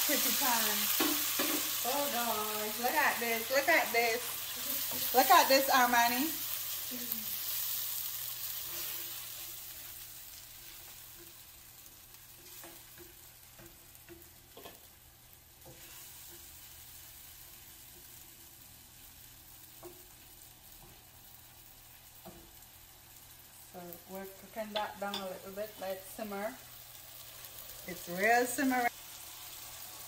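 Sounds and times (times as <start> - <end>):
sauce sizzling in a pan: 0.0 - 30.0.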